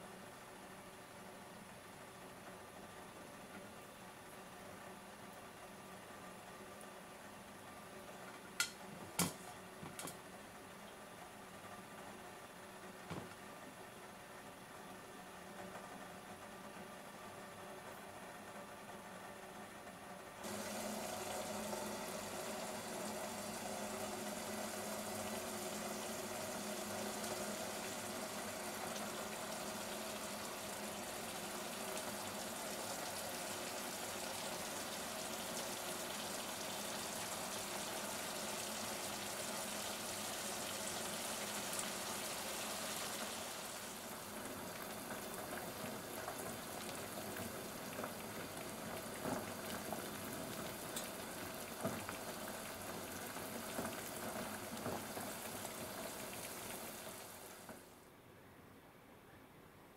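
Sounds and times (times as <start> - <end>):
pot of water boiling: 0.0 - 58.0.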